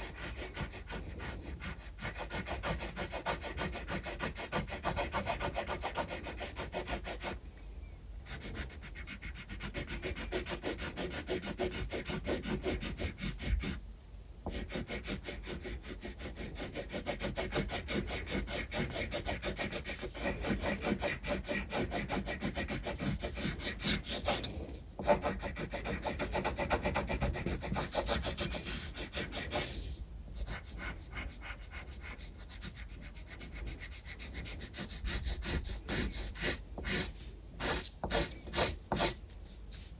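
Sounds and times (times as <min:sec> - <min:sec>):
pencil scratching on paper: 0:00.0 - 0:07.4, 0:08.2 - 0:13.8, 0:14.5 - 0:39.9.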